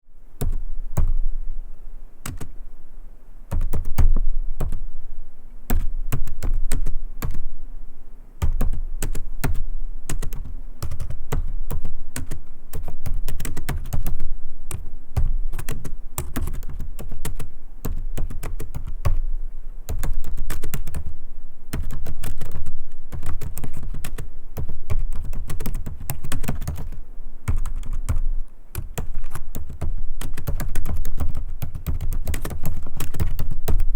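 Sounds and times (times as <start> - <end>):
laptop keyboard typing: 0.4 - 1.2, 2.2 - 2.6, 3.5 - 4.8, 5.7 - 7.4, 8.4 - 19.3, 19.9 - 21.1, 21.7 - 33.9.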